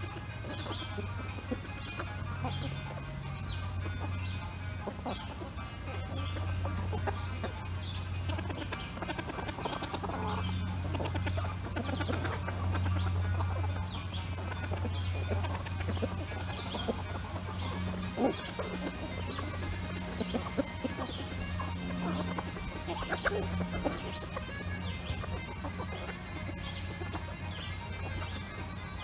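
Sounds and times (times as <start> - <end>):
chickens clucking: 0.0 - 29.0
steady low hum: 0.0 - 29.0.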